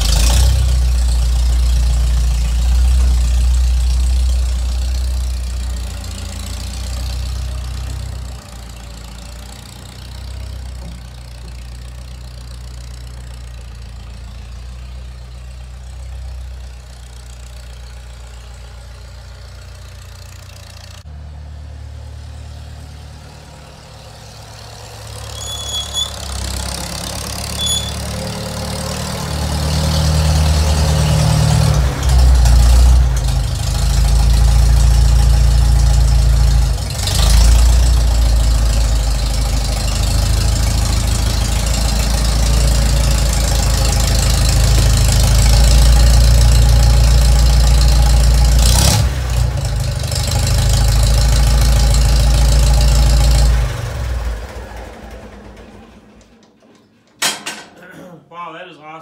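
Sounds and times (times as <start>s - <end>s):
tractor engine running: 0.0s - 57.8s.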